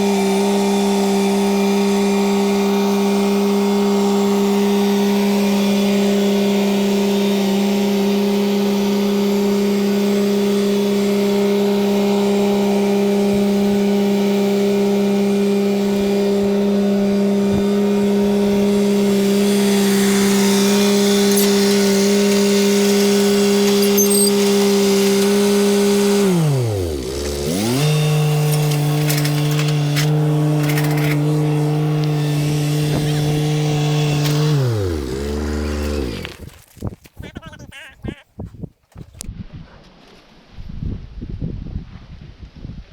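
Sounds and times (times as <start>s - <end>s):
engine running steadily: 1.6s - 36.4s.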